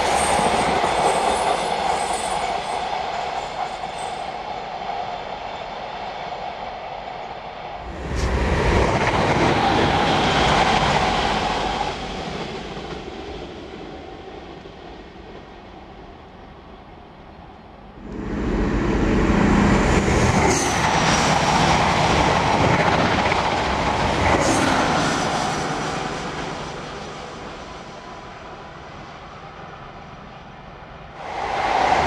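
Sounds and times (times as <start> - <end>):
faint train moving away: 0.0 - 32.0
train passing at speed: 0.0 - 32.0.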